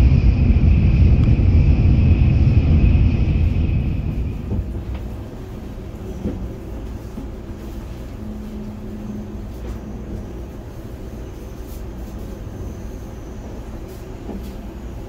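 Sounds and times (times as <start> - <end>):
train rumbling in motion: 0.0 - 15.0.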